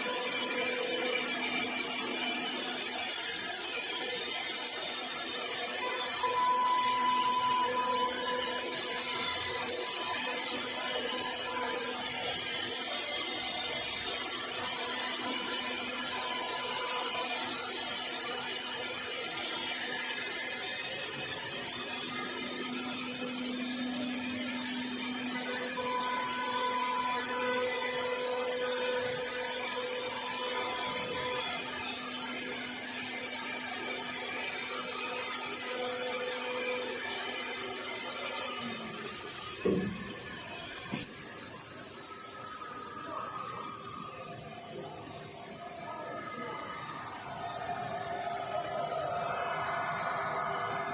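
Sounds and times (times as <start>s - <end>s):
router spindle milling wood: 0.0s - 46.4s.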